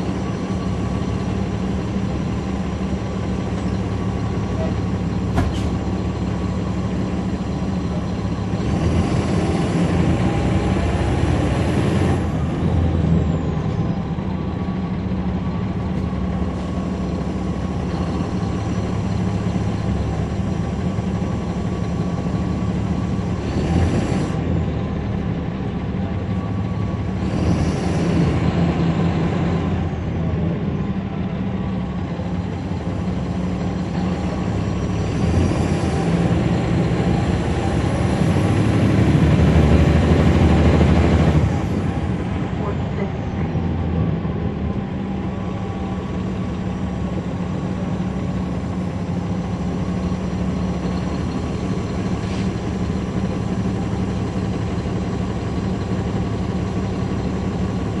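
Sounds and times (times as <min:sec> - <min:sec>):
bus diesel engine hum: 0:00.0 - 0:58.0.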